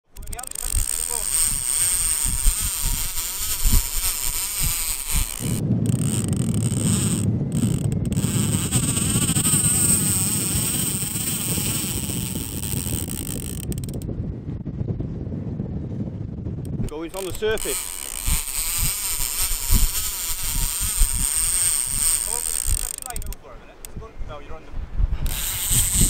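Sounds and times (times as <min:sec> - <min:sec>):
fishing reel buzzing: 0:00.1 - 0:14.1, 0:16.7 - 0:24.0, 0:25.2 - 0:26.0
wind rumble on microphone: 0:00.1 - 0:26.0.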